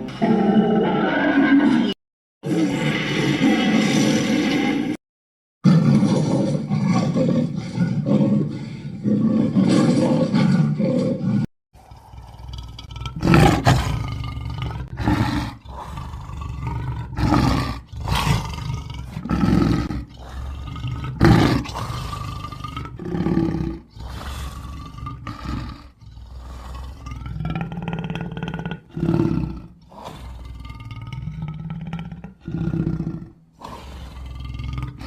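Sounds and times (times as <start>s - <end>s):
dragon growling roars: 0.0s - 5.0s, 5.6s - 35.0s.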